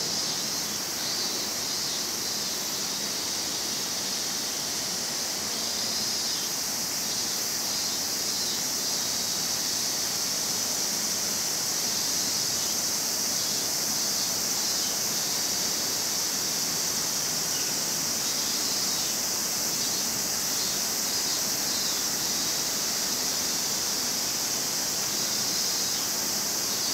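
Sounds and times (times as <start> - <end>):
cicada chorus: 0.0 - 26.9.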